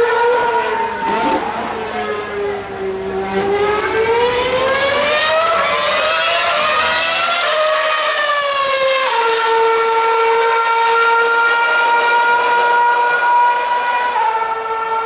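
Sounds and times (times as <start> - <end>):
racing car engine whine: 0.0 - 15.0.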